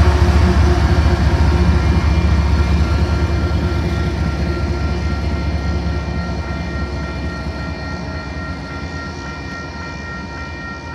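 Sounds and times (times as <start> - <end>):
diesel locomotives rumbling past: 0.0 - 10.9.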